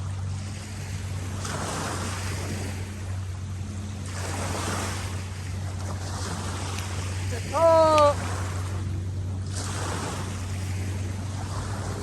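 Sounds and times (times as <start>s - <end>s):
steady low hum: 0.0s - 12.0s
water washing against shore: 0.0s - 12.0s.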